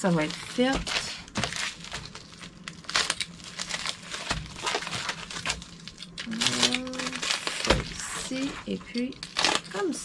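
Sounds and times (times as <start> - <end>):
plastic mailers crinkling: 0.0 - 10.0.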